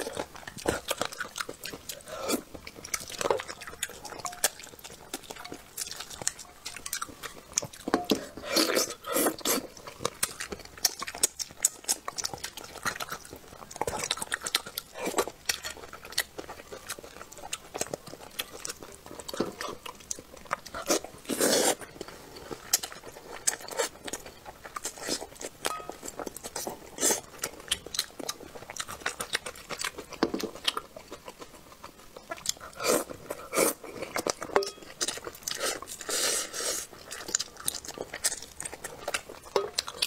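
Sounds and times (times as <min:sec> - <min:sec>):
wet chewing and mouth clicks: 0:00.0 - 0:40.0.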